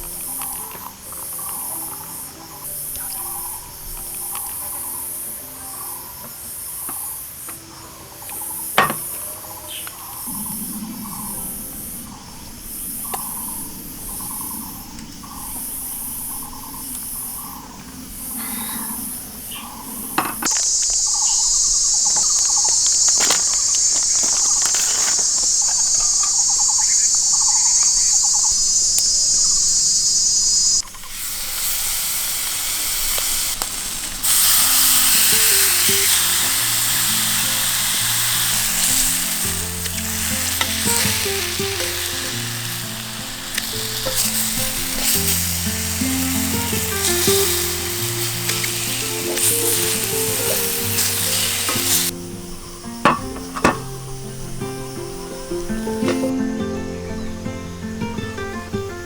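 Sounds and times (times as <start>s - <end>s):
insects chirping: 0.0s - 59.0s
loud steady hiss: 0.0s - 59.0s.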